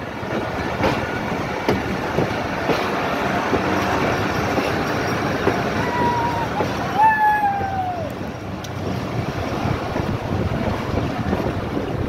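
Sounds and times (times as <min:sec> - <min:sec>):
train rumbling and rattling: 0:00.0 - 0:12.0
wheels clacking over rail joints: 0:00.0 - 0:12.0.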